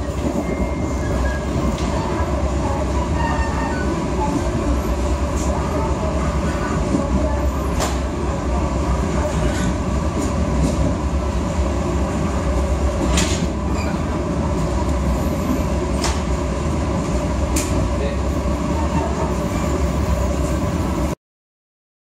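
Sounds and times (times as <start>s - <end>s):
train wheels rumbling on rail: 0.0s - 21.2s.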